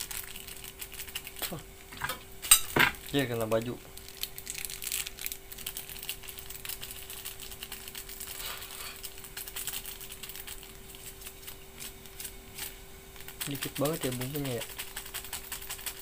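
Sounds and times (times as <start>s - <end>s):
plastic sachet crinkling: 0.0s - 1.6s, 3.0s - 16.0s
faint steady hum: 0.0s - 16.0s.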